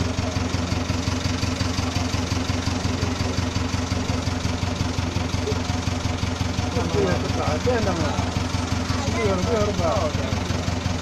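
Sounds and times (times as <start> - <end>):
pulsing mechanical drone: 0.0 - 11.0.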